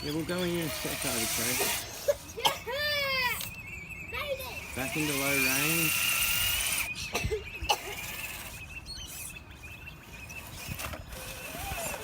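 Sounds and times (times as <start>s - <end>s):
electric motor whining faintly: 0.0s - 12.0s.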